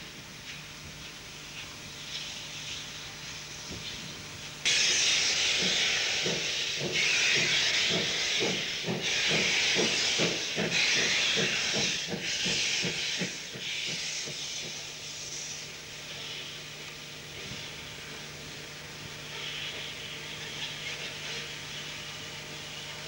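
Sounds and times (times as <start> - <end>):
steam locomotive exhaust chuffs: 0.0 - 23.0
steam hissing in blasts: 1.5 - 23.0.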